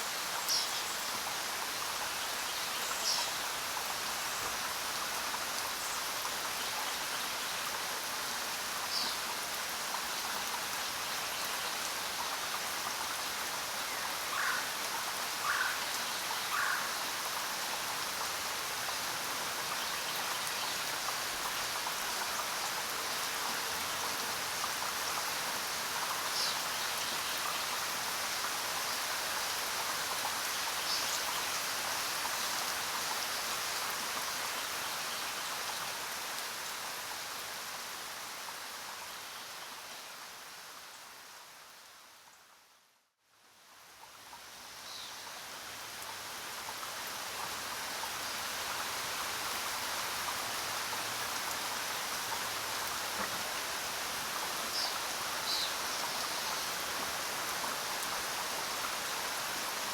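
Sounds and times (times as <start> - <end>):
rain on foliage: 0.0 - 59.9.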